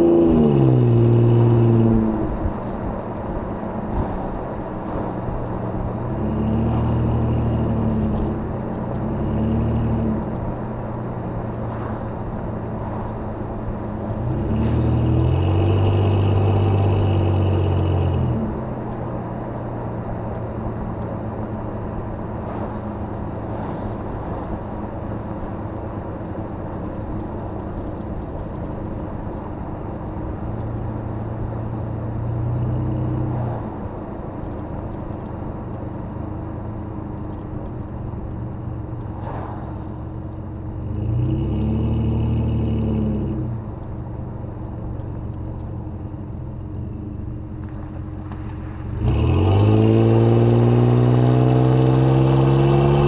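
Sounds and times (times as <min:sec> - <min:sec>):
car engine exhaust drone: 0:00.0 - 0:53.0.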